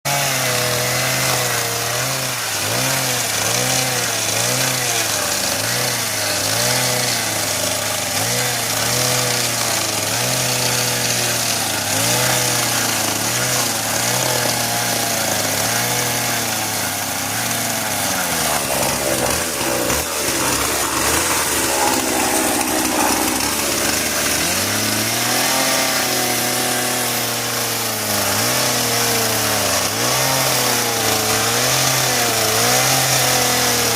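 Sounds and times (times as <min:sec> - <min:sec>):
chainsaw cutting into wall: 0:00.1 - 0:33.9.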